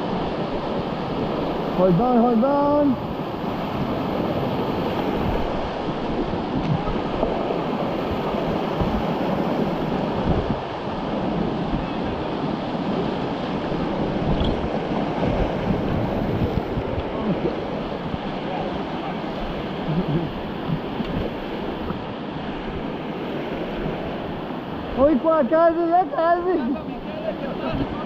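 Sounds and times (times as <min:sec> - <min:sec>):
whitewater rapids rushing: 0:00.0 - 0:28.0.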